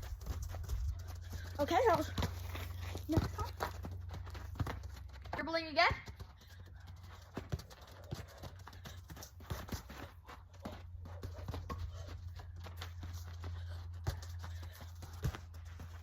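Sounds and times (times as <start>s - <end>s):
feet tapping a ball: 0.0s - 16.0s.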